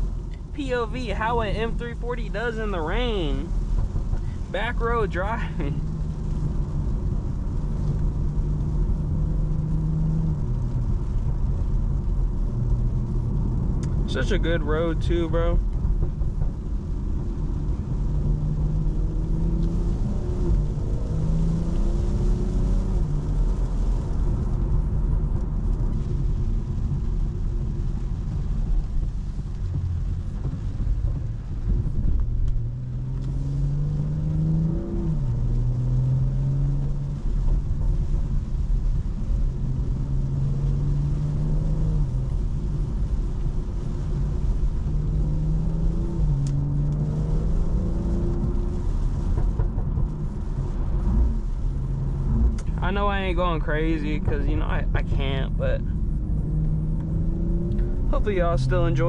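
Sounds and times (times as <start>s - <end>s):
car engine accelerating and upshifting: 0.0s - 59.0s
low road rumble: 0.0s - 59.0s.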